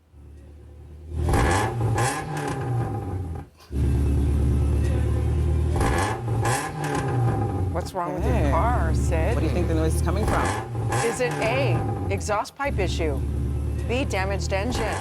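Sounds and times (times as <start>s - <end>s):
car engine revving loudly: 0.1s - 15.0s.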